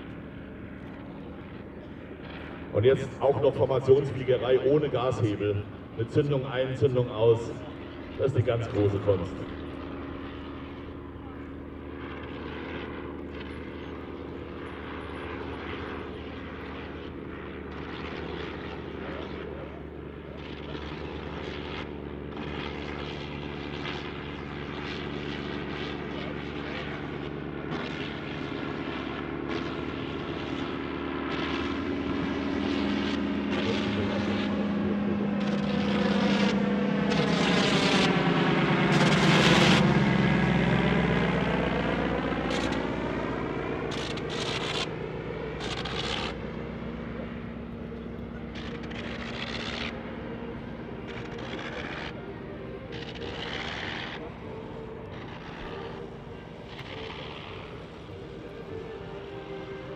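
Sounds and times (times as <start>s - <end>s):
propeller planes flying past: 0.0s - 59.9s.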